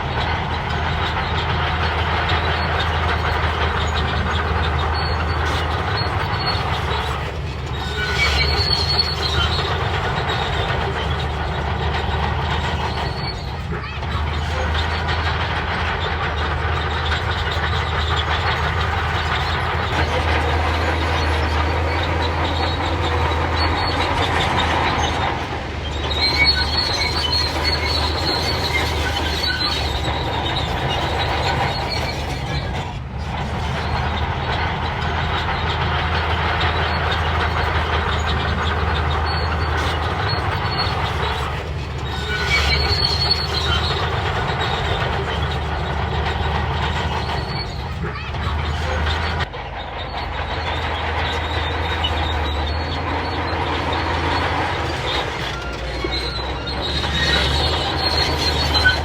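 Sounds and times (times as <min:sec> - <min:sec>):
bulldozer diesel engine running: 0:00.0 - 0:59.0
steel tracks clanking and squealing: 0:00.0 - 0:59.0.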